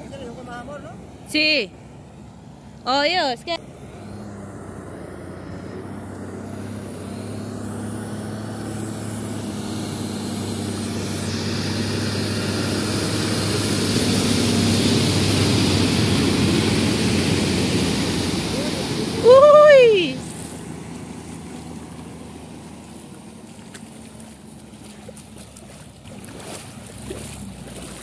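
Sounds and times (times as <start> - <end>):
truck engine humming: 0.0 - 28.0
wheels splashing through water: 3.6 - 28.0.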